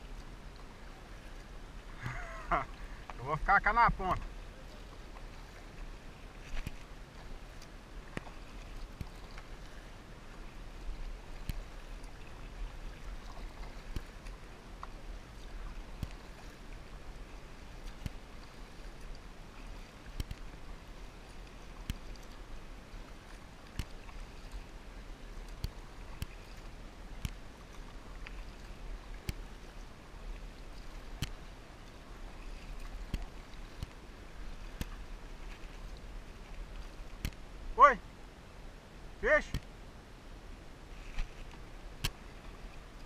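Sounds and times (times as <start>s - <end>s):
paddle blades dipping in water: 0.0s - 37.8s, 40.8s - 43.0s
water wash: 1.9s - 38.0s.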